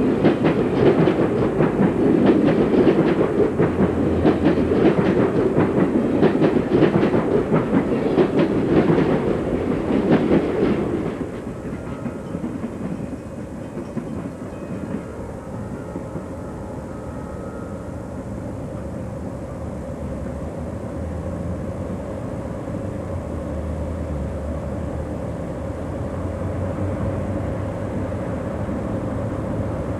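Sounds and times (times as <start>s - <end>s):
train rumbling across bridge: 0.0s - 29.9s.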